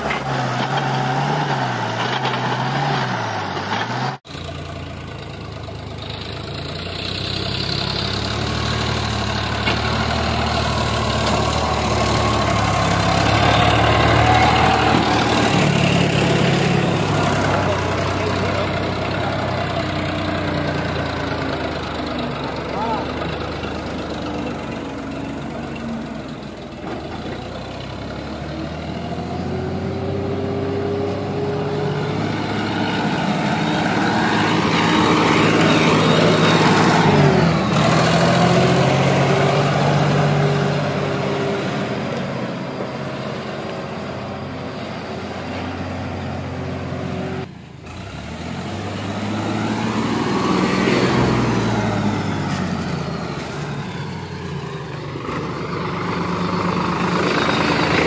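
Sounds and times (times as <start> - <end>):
tractor diesel engine working hard: 0.0 - 58.0.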